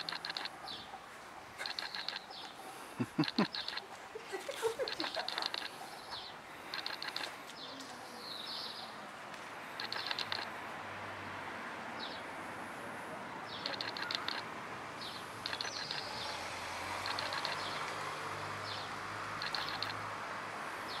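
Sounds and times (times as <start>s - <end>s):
small birds chirping: 0.0s - 9.0s, 9.6s - 10.6s, 11.9s - 12.3s, 13.3s - 20.1s, 20.8s - 21.0s
outdoor background noise: 0.0s - 21.0s.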